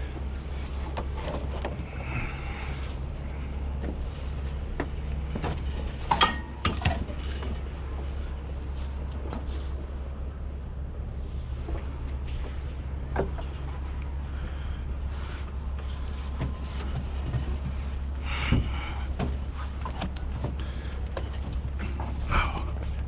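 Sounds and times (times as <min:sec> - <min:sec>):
knocks clicks and creaks: 0:00.0 - 0:23.0
steady low hum: 0:00.0 - 0:23.0.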